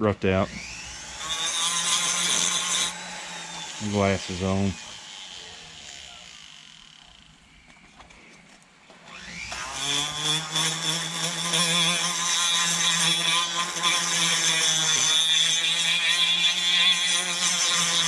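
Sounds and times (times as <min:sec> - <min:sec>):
bit grinding into wood: 0:00.4 - 0:07.3, 0:09.1 - 0:18.0
rotary tool whining: 0:00.4 - 0:18.0.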